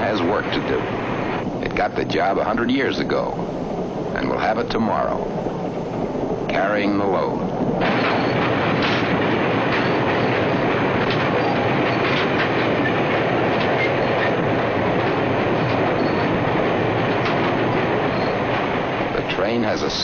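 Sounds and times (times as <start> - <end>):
freight train wheels rumbling on rails: 0.0 - 20.0
wheel clicks on rail: 0.0 - 20.0.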